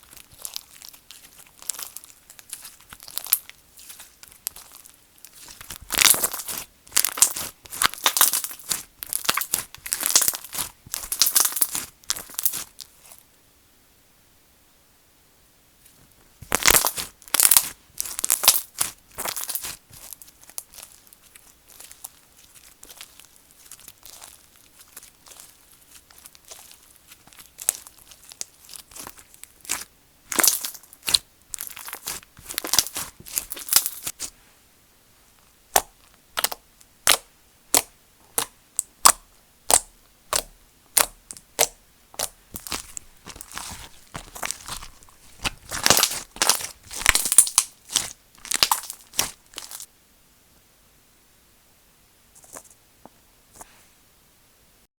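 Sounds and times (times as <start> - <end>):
slime squishing and popping: 0.0 - 13.2, 16.4 - 34.3, 35.7 - 49.9.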